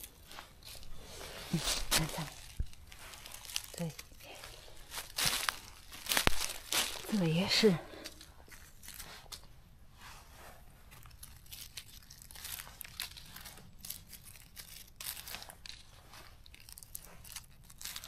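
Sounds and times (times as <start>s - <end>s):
dry leaves rustling and crunching: 0.0s - 9.5s, 10.9s - 18.0s.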